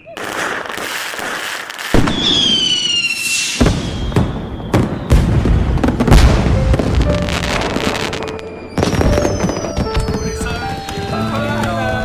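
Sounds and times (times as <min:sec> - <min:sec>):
firework whistle: 0:00.0 - 0:05.9, 0:07.0 - 0:11.4
firework bangs and booms: 0:00.0 - 0:11.7.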